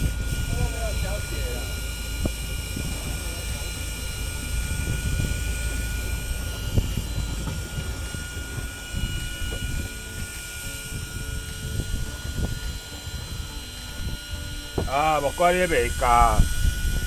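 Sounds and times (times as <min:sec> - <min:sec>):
boat engine rumble: 0:00.0 - 0:17.0
thin constant whine: 0:00.0 - 0:17.0.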